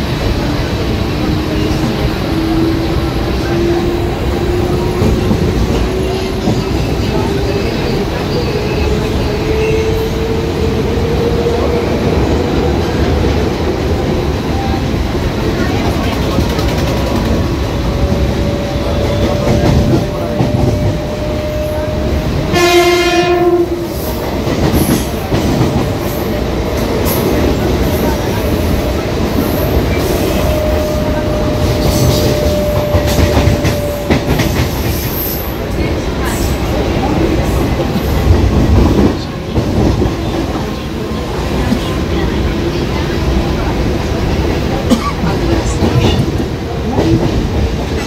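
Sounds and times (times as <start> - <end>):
train wheels clattering over rails: 0.0 - 48.0.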